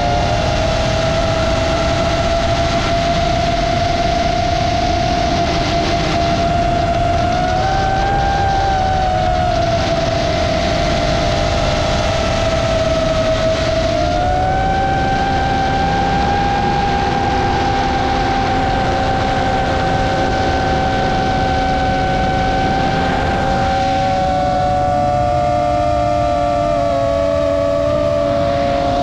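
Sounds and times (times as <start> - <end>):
drone motors whining: 0.0 - 29.0
wind noise on microphone: 0.0 - 29.0.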